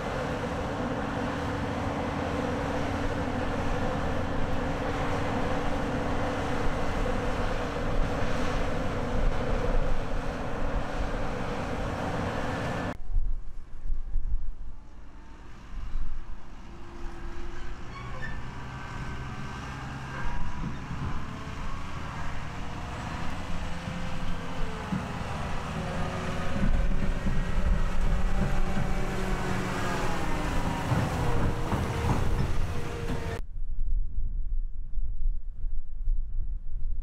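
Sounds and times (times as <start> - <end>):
tractor diesel engine running: 0.0 - 13.0, 16.5 - 33.4.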